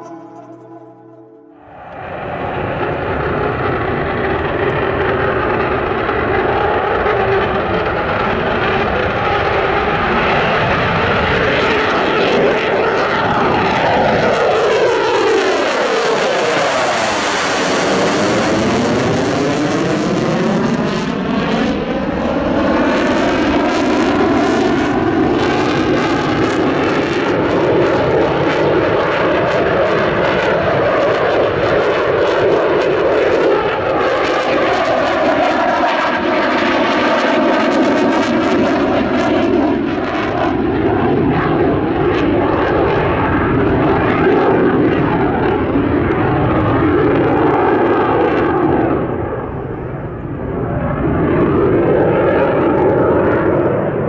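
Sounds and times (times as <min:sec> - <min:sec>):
fighter jet engines roaring: 0:01.6 - 0:54.0.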